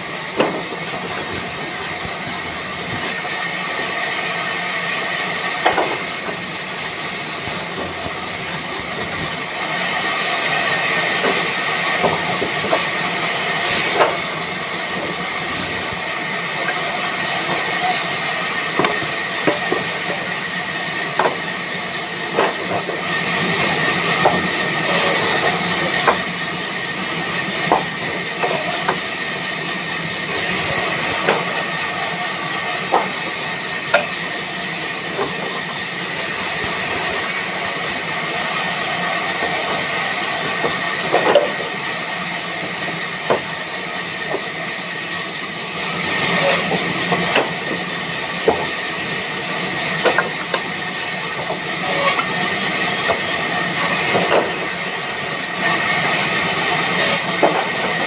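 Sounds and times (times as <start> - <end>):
band sawmill whine: 0.0 - 58.0.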